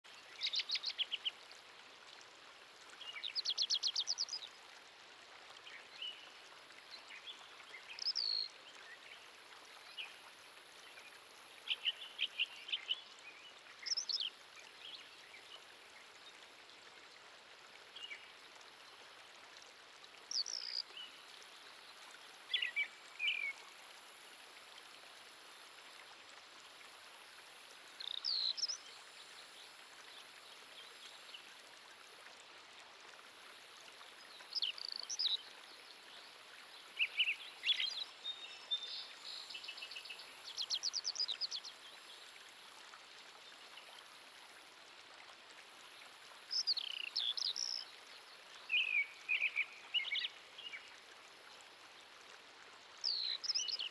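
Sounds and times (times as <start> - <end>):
continuous high hiss: 0.1 - 53.9.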